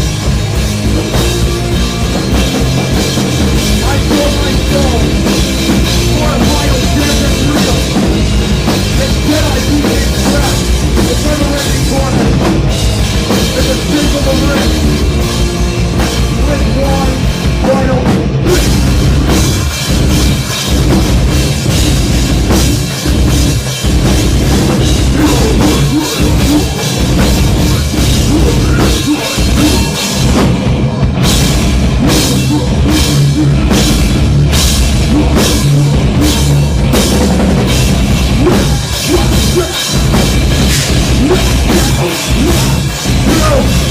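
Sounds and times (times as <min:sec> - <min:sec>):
instrumental punk rock music: 0:00.0 - 0:43.9.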